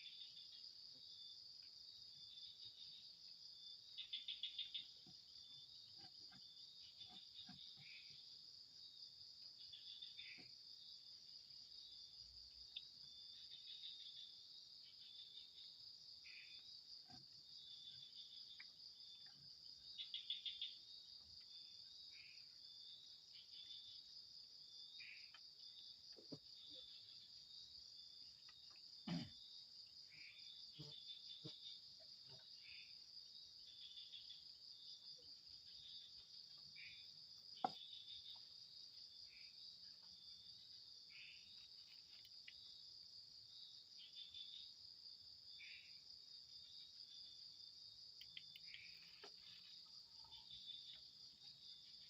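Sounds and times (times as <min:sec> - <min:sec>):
crickets trilling: 0:00.0 - 0:52.0.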